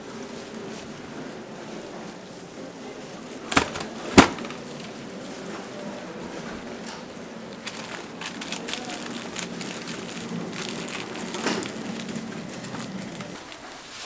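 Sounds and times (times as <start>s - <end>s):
busy market background noise: 0.0s - 14.0s.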